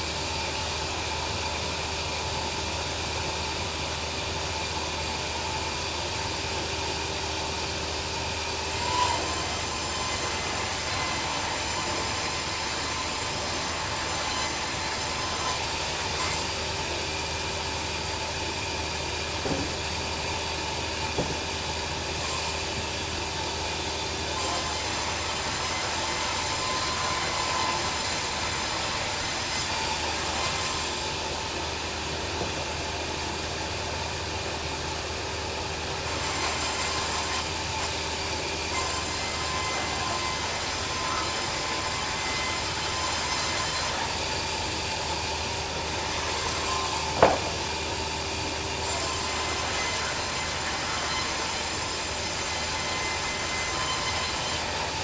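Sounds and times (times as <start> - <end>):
bandsaw cutting log: 8.6 - 33.7, 35.8 - 55.0.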